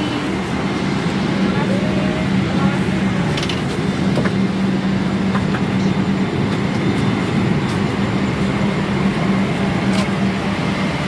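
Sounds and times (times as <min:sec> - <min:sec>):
air conditioning rushing air: 0:00.0 - 0:11.0.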